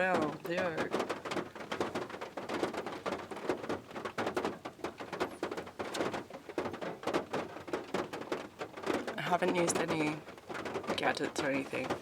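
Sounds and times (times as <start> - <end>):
patter of small taps and clicks: 0.0 - 12.0.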